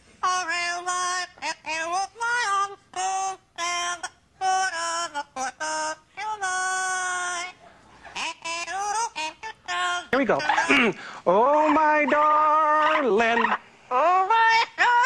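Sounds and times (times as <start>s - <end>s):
parrot singing held notes: 0.3s - 7.6s, 8.2s - 10.7s, 11.4s - 15.0s.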